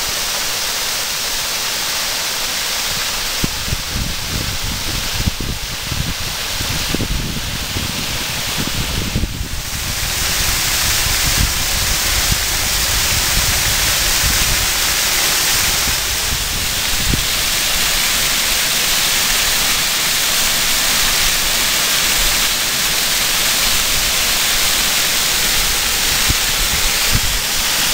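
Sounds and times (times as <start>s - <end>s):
water pouring down waterfall: 0.0s - 27.9s.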